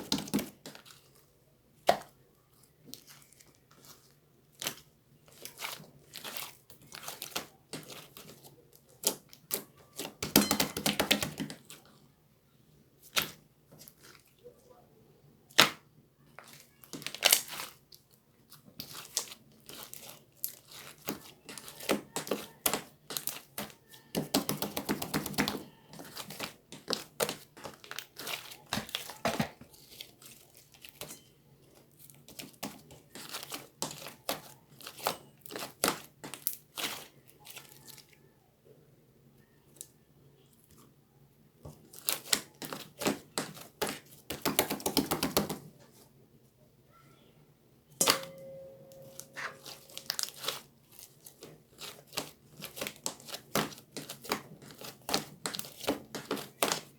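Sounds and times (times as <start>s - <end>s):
crinkling handling sounds: 0.0s - 12.2s, 13.0s - 14.7s, 16.2s - 38.3s, 39.4s - 46.6s, 48.0s - 56.9s.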